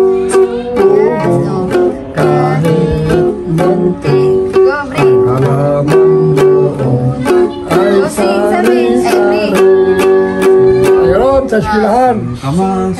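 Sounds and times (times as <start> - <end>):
ukulele strumming: 0.0 - 11.8.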